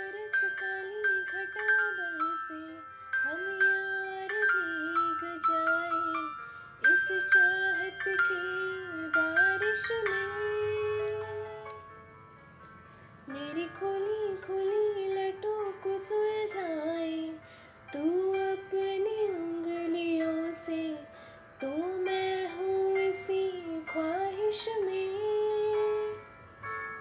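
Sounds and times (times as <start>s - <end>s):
woman singing: 0.0s - 11.8s, 13.3s - 26.3s
instrumental backing track: 0.0s - 27.0s.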